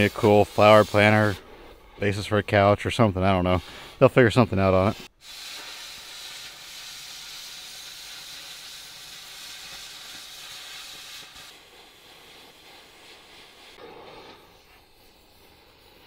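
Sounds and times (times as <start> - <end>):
cutting torch hissing: 0.0 - 16.0.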